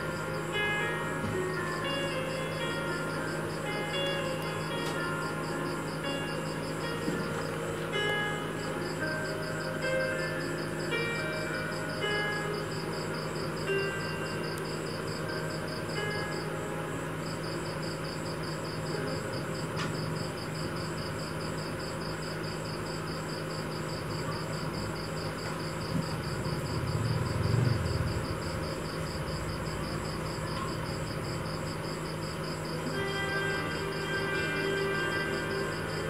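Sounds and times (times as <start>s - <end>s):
insect chirping: 0.0s - 36.0s.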